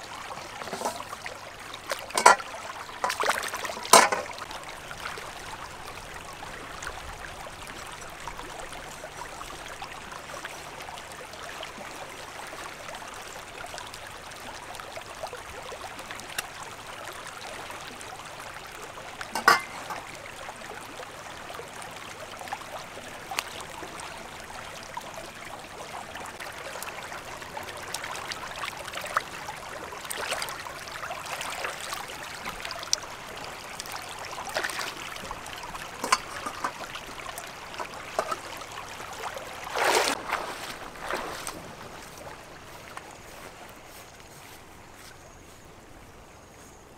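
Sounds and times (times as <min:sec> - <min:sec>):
small splashes: 0:00.0 - 0:45.1
stream water over rocks: 0:00.0 - 0:46.9.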